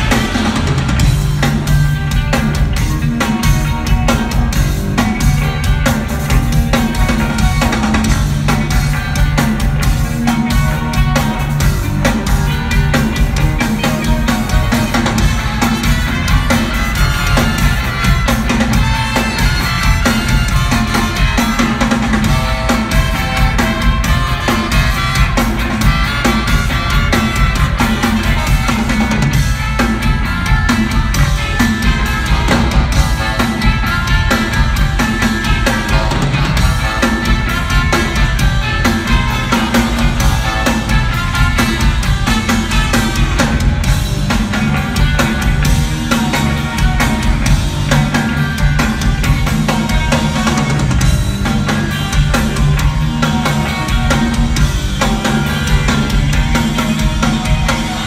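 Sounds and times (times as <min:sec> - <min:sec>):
drum kit beat: 0:00.0 - 0:58.0
live rock band playing: 0:00.0 - 0:58.0.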